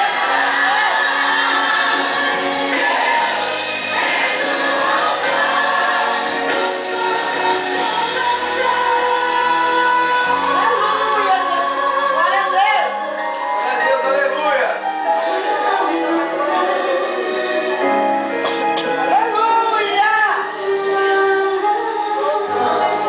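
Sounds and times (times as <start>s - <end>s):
voices singing together: 0.0s - 13.2s, 15.1s - 23.0s
instrumental backing: 0.0s - 23.0s.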